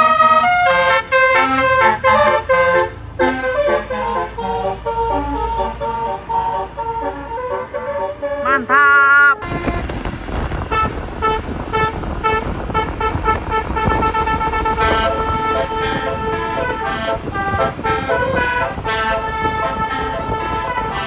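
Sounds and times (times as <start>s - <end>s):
low vehicle rumble: 0.0s - 21.0s
multi-trumpet air horn tune: 0.0s - 21.0s.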